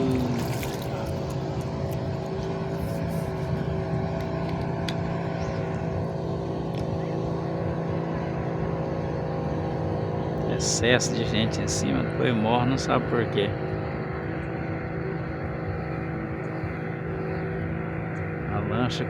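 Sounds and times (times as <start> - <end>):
motorboat engine humming: 0.0 - 19.0.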